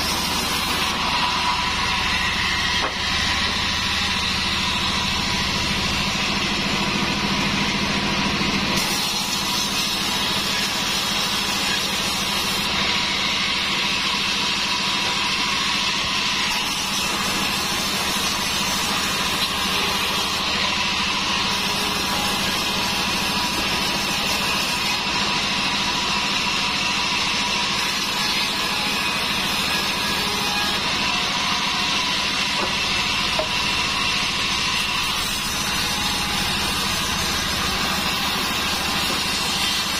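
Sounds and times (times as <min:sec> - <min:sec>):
band saw machine drone: 0:00.0 - 0:39.9.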